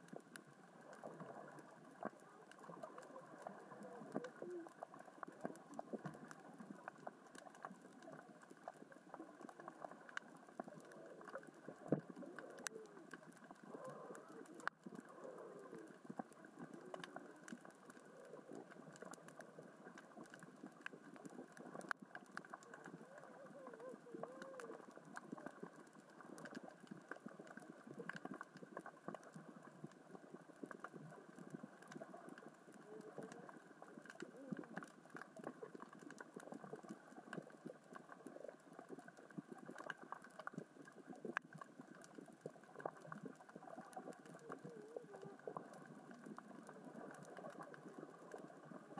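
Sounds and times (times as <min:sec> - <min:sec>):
underwater rocks clicking: 0:00.0 - 0:48.9.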